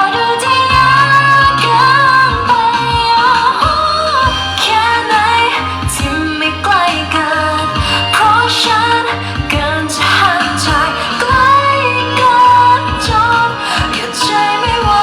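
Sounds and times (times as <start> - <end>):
pulsing bass beat: 0.0 - 15.0
woman singing pop song: 0.0 - 15.0.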